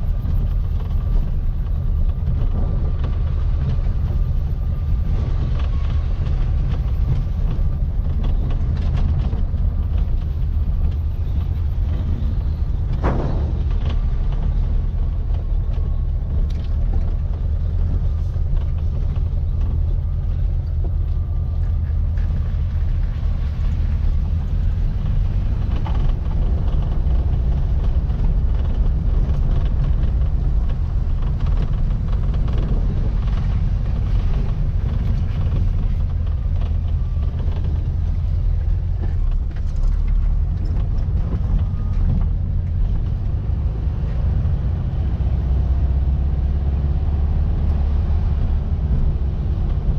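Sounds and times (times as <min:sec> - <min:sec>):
car engine droning while driving: 0:00.0 - 0:49.9.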